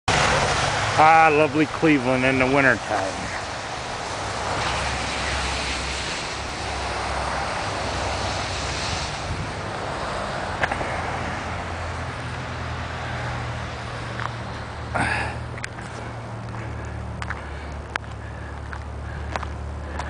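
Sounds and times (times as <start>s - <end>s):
low traffic hum: 0.1s - 20.0s
tyres hissing on wet road: 0.1s - 20.0s.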